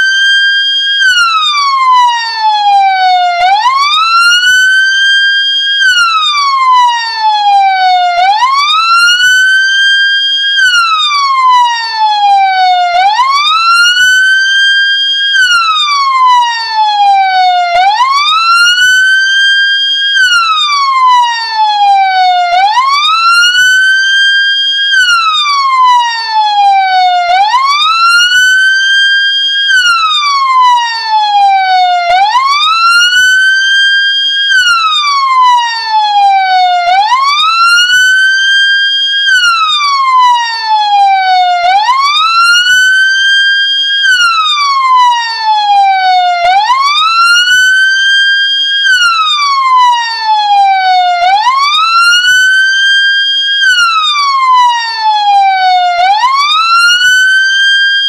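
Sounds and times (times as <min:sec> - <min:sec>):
ambulance siren wailing: 0:00.0 - 0:58.0.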